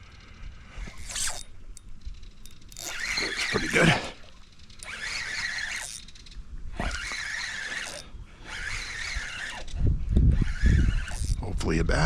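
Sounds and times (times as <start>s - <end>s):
fishing reel being cranked: 0.8s - 11.5s.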